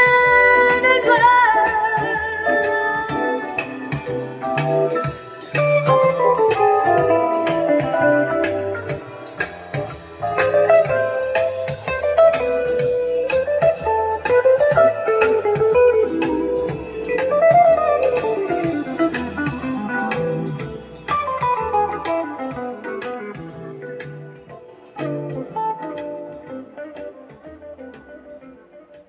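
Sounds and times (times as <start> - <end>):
instrumental music over loudspeakers: 0.0 - 29.0.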